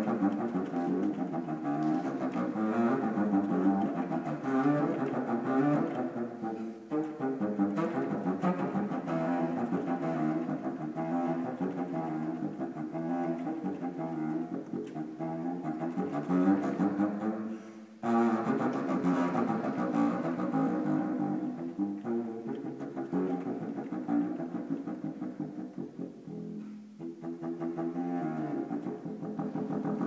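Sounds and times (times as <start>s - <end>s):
contrabassoon playing low notes: 0.0s - 30.0s.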